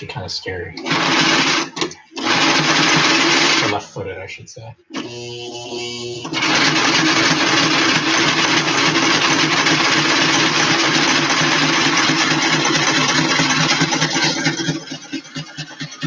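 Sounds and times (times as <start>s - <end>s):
electric sewing machine running: 0.8s - 3.8s, 4.9s - 16.0s.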